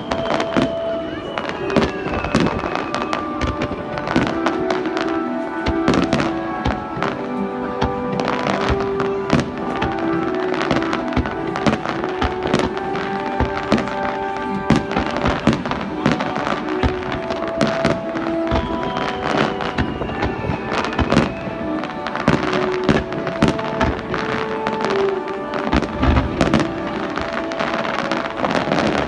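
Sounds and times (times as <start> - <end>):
fireworks bursting: 0.0 - 29.0
music with sustained notes: 0.0 - 29.0
sharp bangs and crackles: 0.0 - 29.0.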